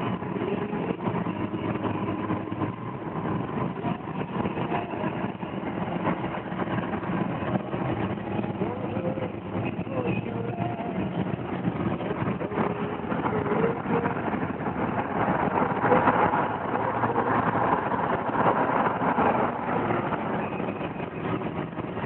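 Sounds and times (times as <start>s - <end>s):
car engine: 0.0s - 22.0s
wind noise: 0.0s - 22.0s.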